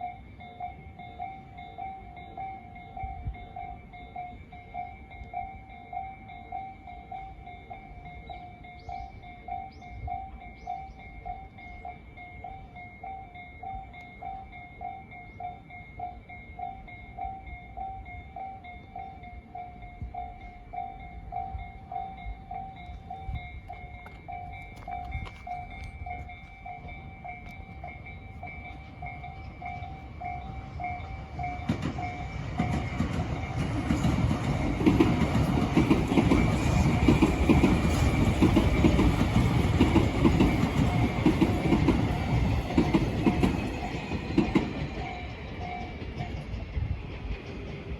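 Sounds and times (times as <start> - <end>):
level-crossing bell ringing: 0.0 - 46.7
train passing: 0.0 - 47.9.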